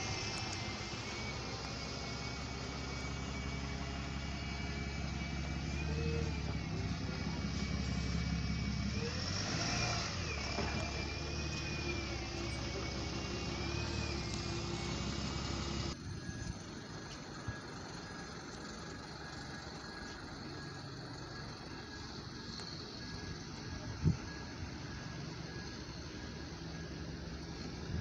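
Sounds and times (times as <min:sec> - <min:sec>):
bus engine passing with whine: 0:00.0 - 0:28.0.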